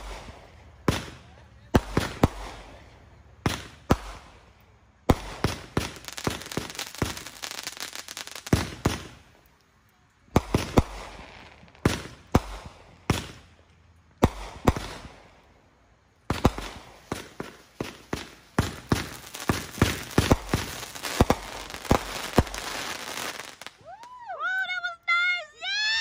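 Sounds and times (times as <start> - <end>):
fireworks bangs: 0.0 - 9.6, 10.3 - 26.0
fireworks crackling: 0.0 - 26.0.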